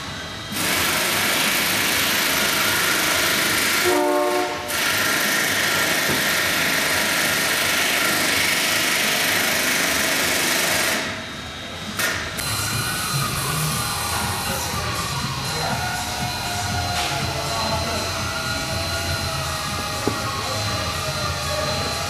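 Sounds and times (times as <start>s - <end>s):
air tool hissing: 0.0s - 22.0s.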